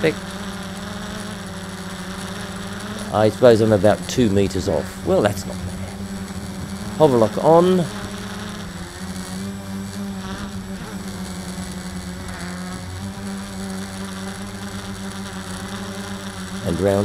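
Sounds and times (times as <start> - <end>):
quadcopter propellers buzzing: 0.0 - 17.0.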